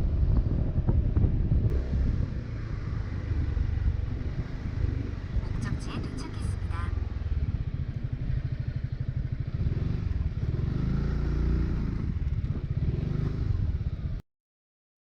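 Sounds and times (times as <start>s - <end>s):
scooter engine running: 1.9s - 14.2s.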